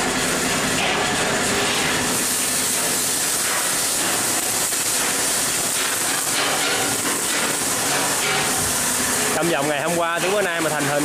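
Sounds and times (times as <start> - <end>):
arc welding crackling hiss: 0.0 - 11.0.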